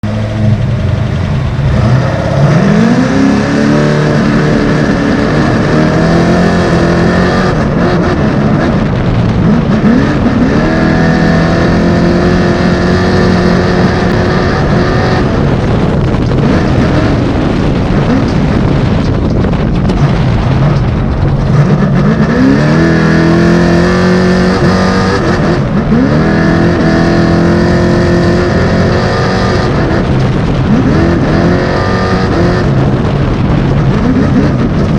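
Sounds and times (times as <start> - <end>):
loud rushing noise: 0.0 - 34.9
truck engine accelerating: 0.0 - 34.9.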